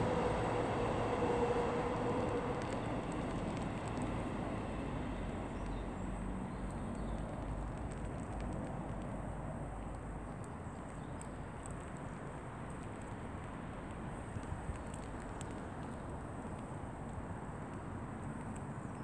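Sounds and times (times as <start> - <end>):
distant vehicle rumble: 0.0 - 19.0.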